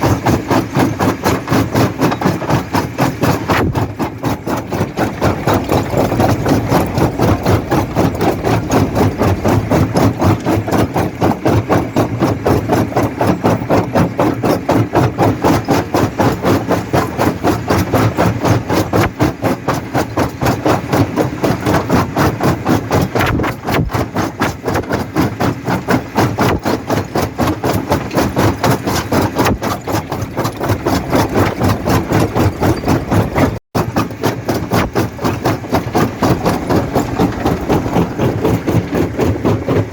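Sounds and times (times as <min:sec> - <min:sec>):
rock crusher rhythmic pulsing: 0:00.0 - 0:39.9
rocks rattling and knocking: 0:00.0 - 0:39.9.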